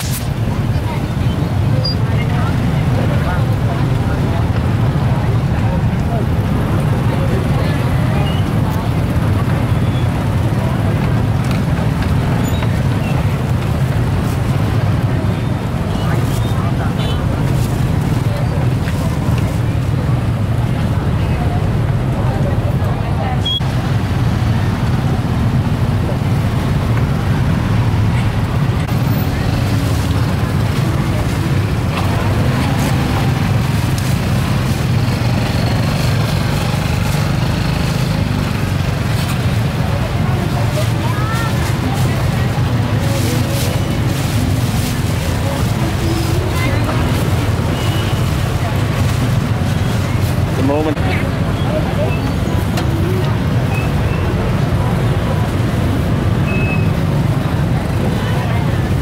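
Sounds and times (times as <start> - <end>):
street traffic rumble: 0.0 - 59.0.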